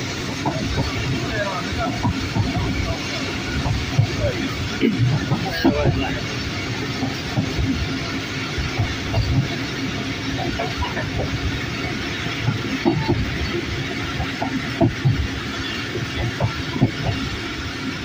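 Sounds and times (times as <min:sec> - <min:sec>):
wheels clicking over rail joints: 0:00.0 - 0:17.4
train wheels rumbling on rails: 0:00.0 - 0:18.0.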